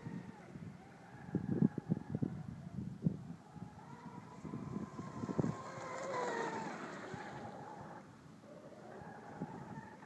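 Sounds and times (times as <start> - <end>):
faint electric motor whine: 0.0 - 10.0
wind buffeting microphone: 0.0 - 10.0.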